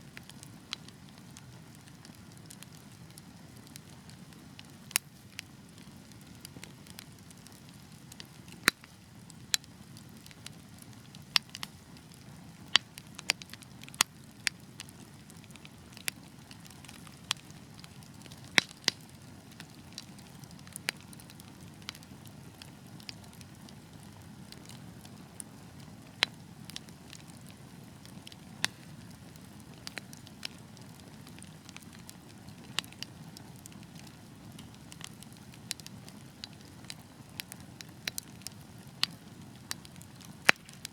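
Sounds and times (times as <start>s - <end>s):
crackles and pops of burning logs: 0.0s - 40.9s
wood fire rumbling: 0.1s - 40.9s.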